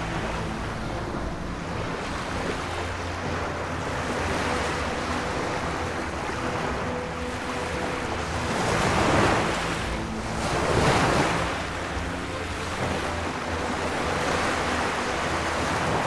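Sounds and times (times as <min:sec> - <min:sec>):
waves washing onto stony beach: 0:00.0 - 0:16.0.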